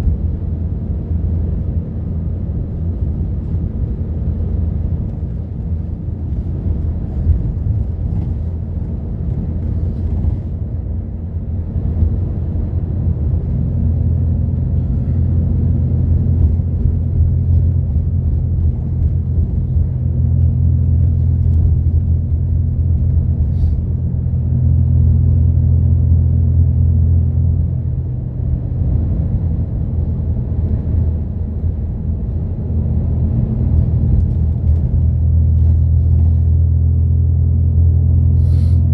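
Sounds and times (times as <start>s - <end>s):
bus engine drone: 0.0s - 38.9s
road rumble: 0.0s - 38.9s.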